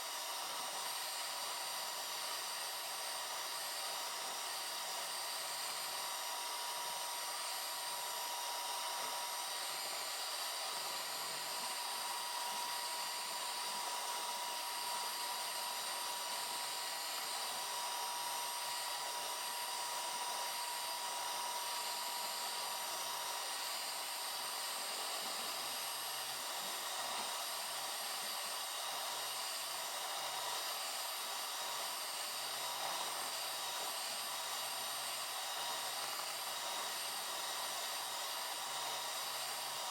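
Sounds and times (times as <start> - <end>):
electric mixer whirring: 0.0 - 39.9.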